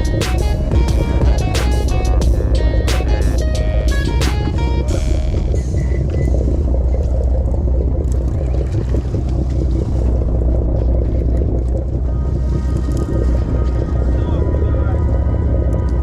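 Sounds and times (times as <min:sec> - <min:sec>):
boat engine droning: 0:00.0 - 0:16.0
water noise: 0:00.0 - 0:16.0.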